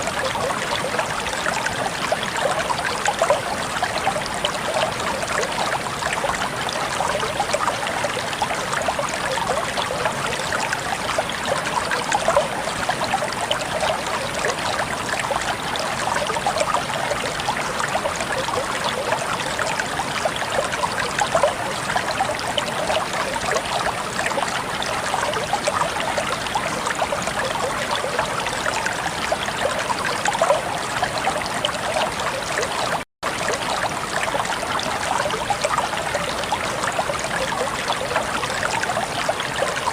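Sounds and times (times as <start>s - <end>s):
water babbling and trickling: 0.0s - 39.9s.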